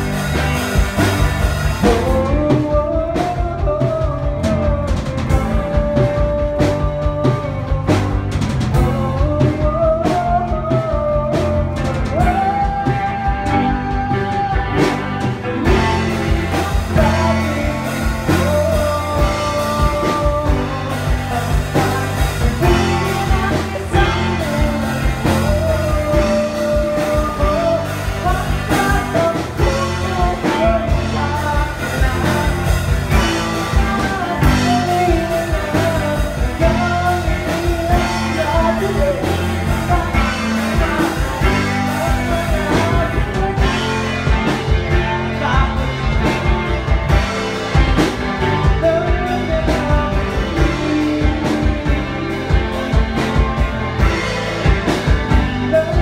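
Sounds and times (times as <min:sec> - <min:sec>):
drum kit: 0:00.0 - 0:56.0
electric bass: 0:00.0 - 0:56.0
person singing: 0:00.0 - 0:56.0.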